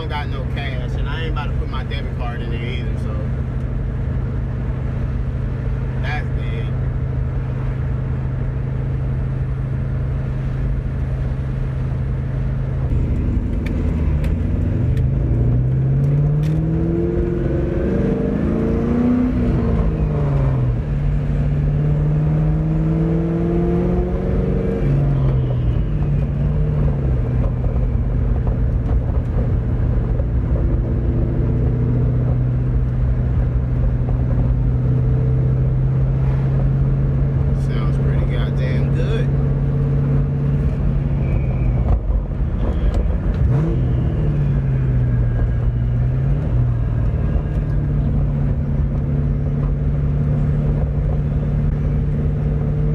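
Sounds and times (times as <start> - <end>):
car engine and exhaust: 0.0 - 52.9.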